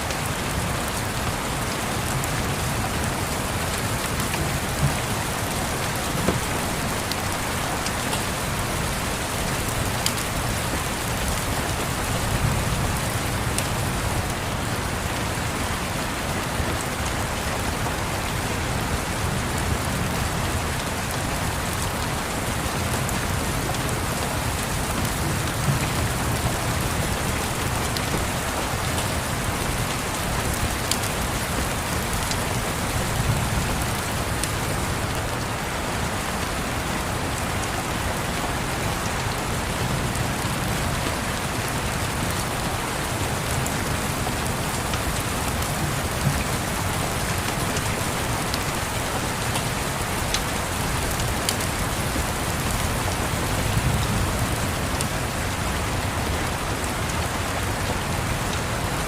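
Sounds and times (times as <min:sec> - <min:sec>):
rain pattering on a window: 0:00.0 - 0:59.0.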